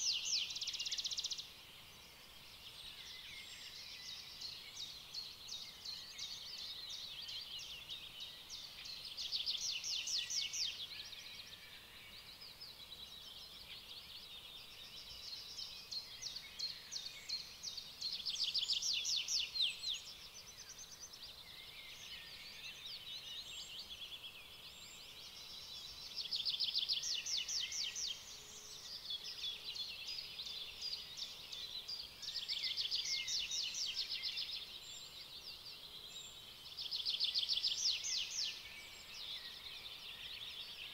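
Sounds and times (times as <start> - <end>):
birds singing trills: 0.0 - 40.9.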